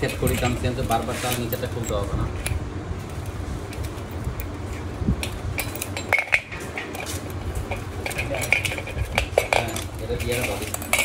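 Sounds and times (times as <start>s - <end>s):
metal clutch plates clinking: 0.0s - 11.0s.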